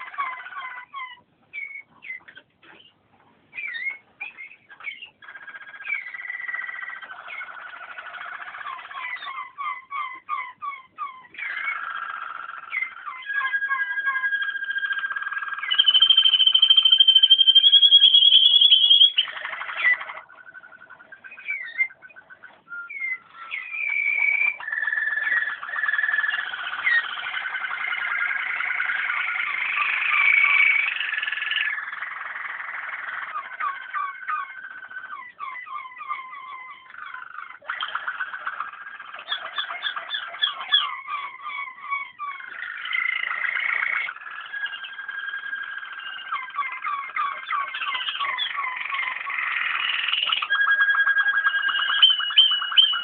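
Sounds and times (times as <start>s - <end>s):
canaries singing trills: 0.0s - 53.0s.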